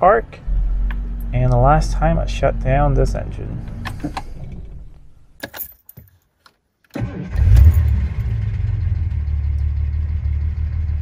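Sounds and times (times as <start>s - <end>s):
car engine switching off: 0.3s - 5.3s, 7.0s - 11.0s
engine cranking and idling: 0.3s - 5.4s, 7.0s - 11.0s.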